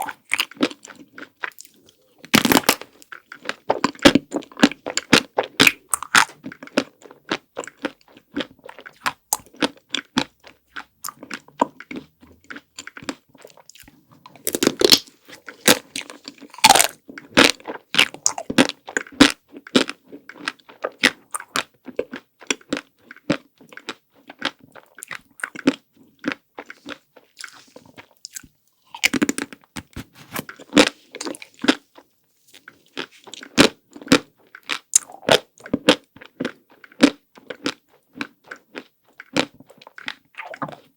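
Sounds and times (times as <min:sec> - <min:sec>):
chocolate shell crunching: 0:00.0 - 0:40.9
wet chewing: 0:00.0 - 0:40.9.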